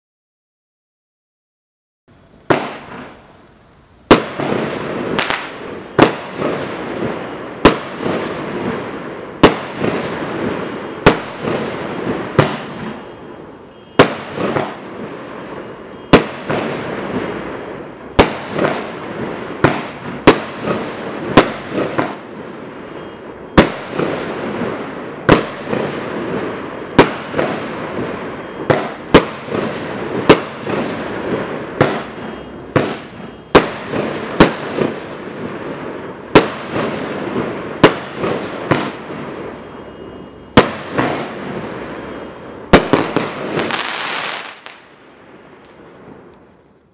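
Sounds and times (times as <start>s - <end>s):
firework hiss: 2.1s - 46.9s
firework shots banging: 2.4s - 3.2s, 4.1s - 45.0s.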